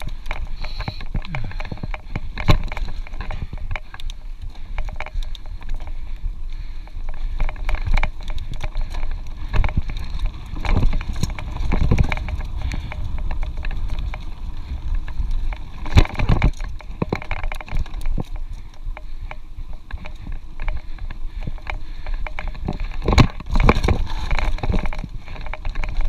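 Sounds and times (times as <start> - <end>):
bike rattling on bumps: 0.0 - 26.0
wind buffeting microphone: 0.0 - 26.0.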